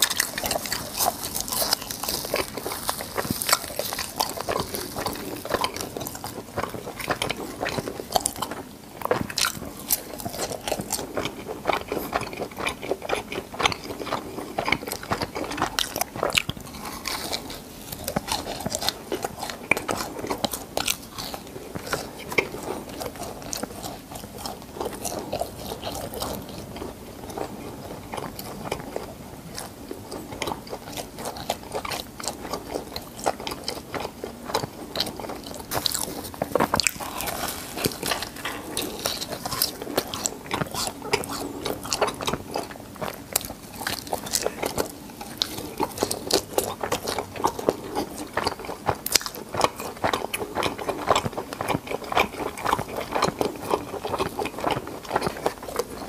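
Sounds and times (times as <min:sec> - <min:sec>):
crunching and chewing fried food: 0:00.0 - 0:56.0.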